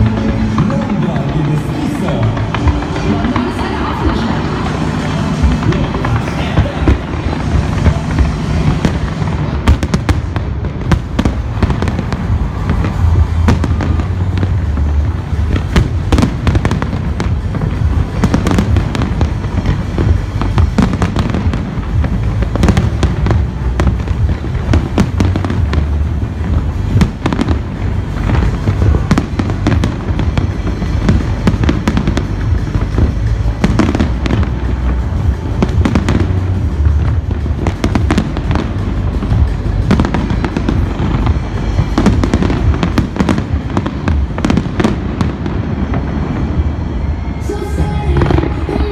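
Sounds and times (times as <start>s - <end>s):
fireworks bangs and crackles: 0.0s - 48.9s
loud music with heavy bass: 0.0s - 48.9s.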